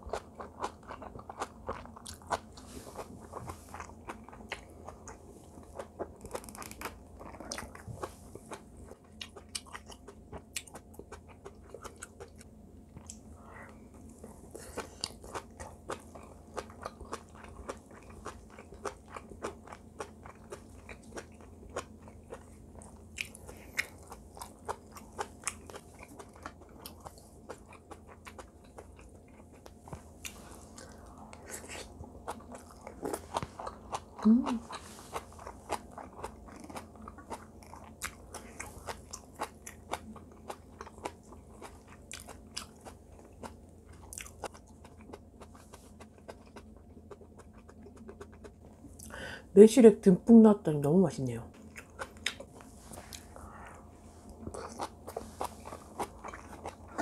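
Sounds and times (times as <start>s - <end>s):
wet chewing crunches: 0.0s - 13.2s, 14.5s - 49.2s, 51.6s - 57.0s.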